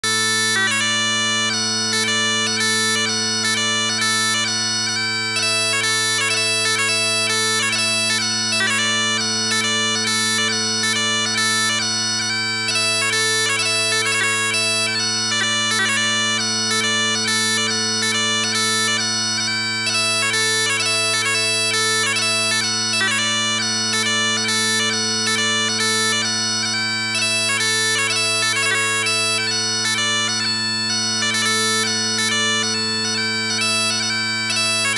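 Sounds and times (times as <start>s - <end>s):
bagpipe drone and melody: 0.0s - 34.9s.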